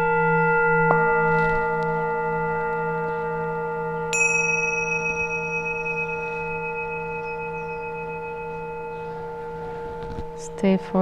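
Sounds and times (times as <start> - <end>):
higher singing bowl note struck: 0.0 - 11.0
singing bowls ringing: 0.0 - 11.0.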